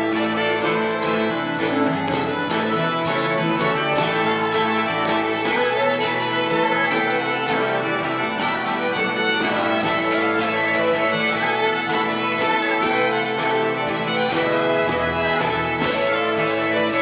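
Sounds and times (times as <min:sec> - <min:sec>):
fiddles playing a folk tune: 0:00.0 - 0:17.0
harmonium: 0:00.0 - 0:17.0
strummed guitar: 0:00.0 - 0:17.0.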